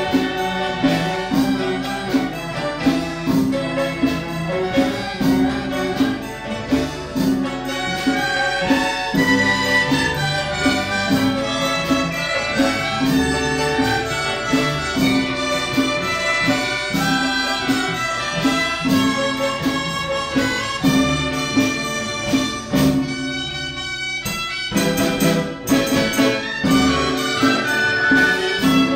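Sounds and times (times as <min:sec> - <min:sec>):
bowed erhu: 0:00.0 - 0:25.2
dizi flute: 0:00.0 - 0:28.9
plucked pipa: 0:00.0 - 0:28.9.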